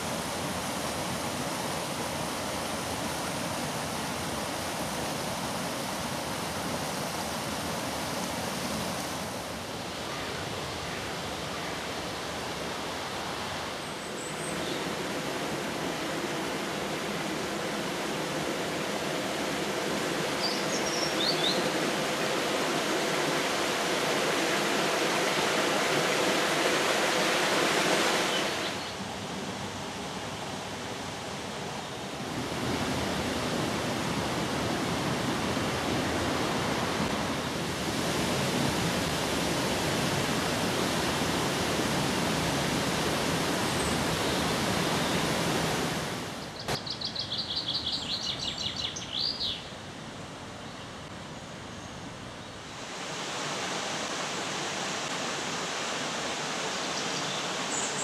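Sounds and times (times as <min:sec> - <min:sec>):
steady rushing noise: 0:00.0 - 0:46.8, 0:52.6 - 0:58.0.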